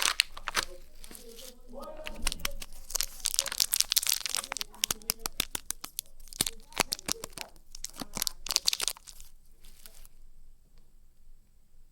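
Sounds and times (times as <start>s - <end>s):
wrapper crinkling and tearing: 0.0s - 10.2s.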